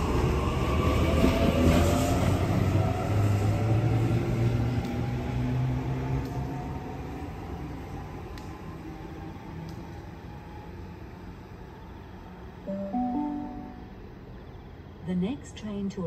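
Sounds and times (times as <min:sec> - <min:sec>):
electric train pulling away: 0:00.0 - 0:15.0.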